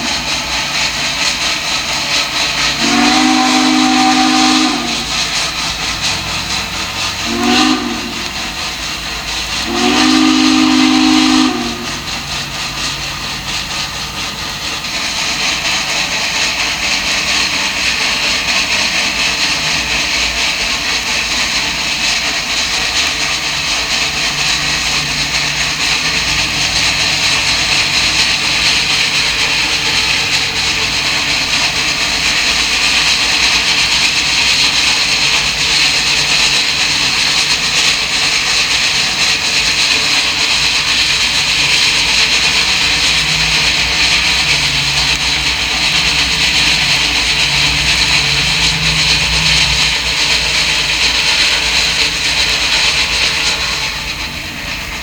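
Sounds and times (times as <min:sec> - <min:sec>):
steam locomotive rushing past: 0:00.0 - 0:55.0.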